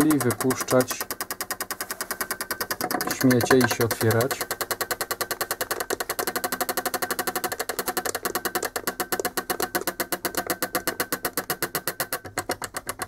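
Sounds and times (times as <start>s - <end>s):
solenoid valve clicking rapidly: 0.0s - 13.0s.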